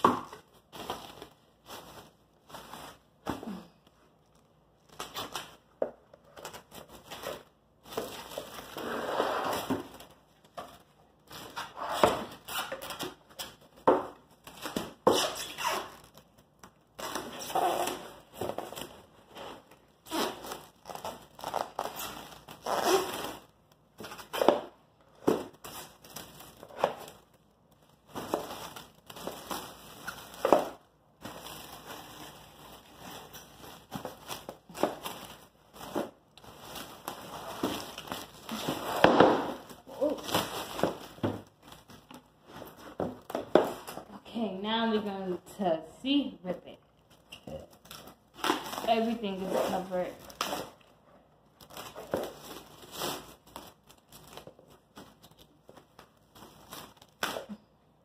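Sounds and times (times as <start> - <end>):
plastic wrap crinkling: 0.0 - 44.2, 46.6 - 57.8.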